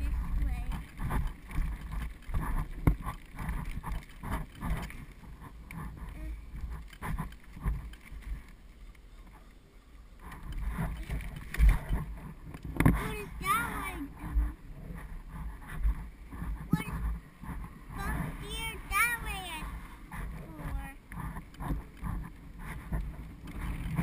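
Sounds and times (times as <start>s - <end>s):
wind and tyre rumble: 0.0s - 24.0s.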